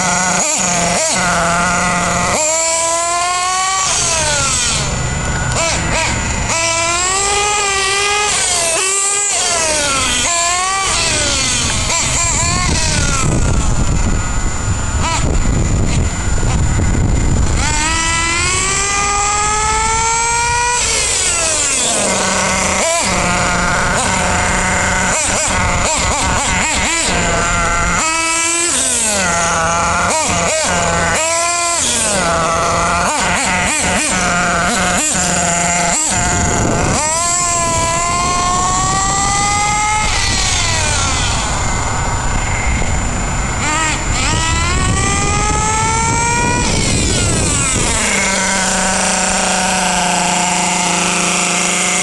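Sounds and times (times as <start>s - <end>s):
small nitro engine revving: 0.0s - 52.0s.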